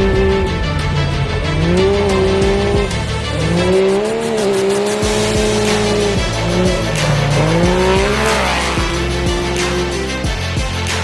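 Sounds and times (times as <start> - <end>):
background music: 0.0 - 11.0
car engine running hard: 0.0 - 11.0.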